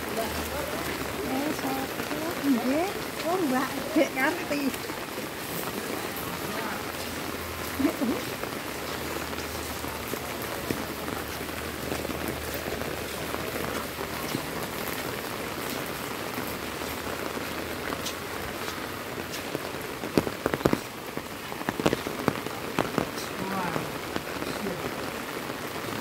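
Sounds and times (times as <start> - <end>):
heavy rain on pavement: 0.0 - 26.0.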